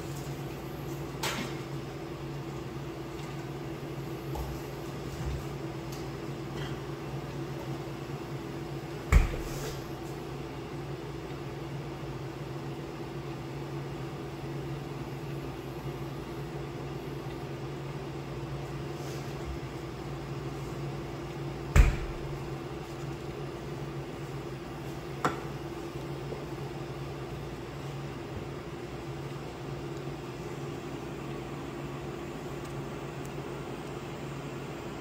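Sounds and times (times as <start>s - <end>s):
electric cooktop humming: 0.0s - 35.0s.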